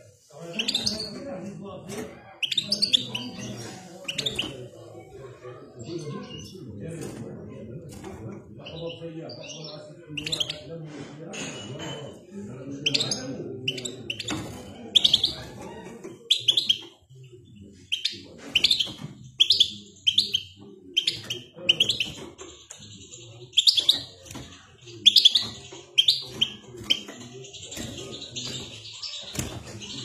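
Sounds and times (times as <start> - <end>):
bird chirping and trilling: 0.4 - 1.3, 2.3 - 6.6, 8.6 - 10.7, 12.7 - 30.0.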